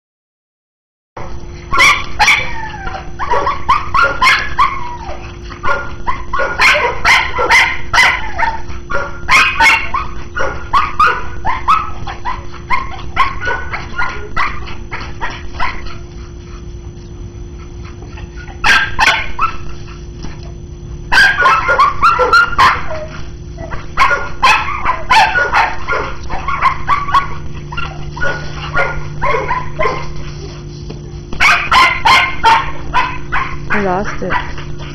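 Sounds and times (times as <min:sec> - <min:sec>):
dog barking and yipping: 0:01.2 - 0:16.1, 0:17.9 - 0:20.0, 0:21.1 - 0:30.7, 0:31.4 - 0:34.9.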